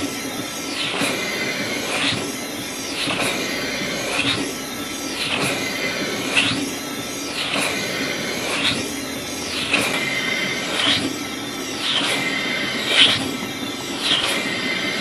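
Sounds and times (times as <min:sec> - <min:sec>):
rhythmic air hiss of model engine: 0:00.0 - 0:15.0
steady low hum: 0:00.0 - 0:15.0.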